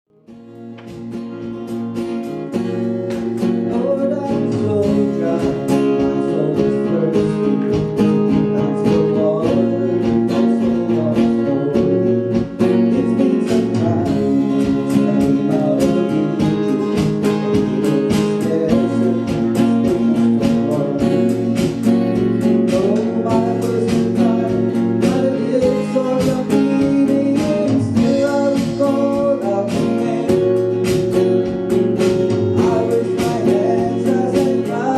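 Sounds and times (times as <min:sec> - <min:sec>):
acoustic guitar strumming: 0:00.1 - 0:34.9.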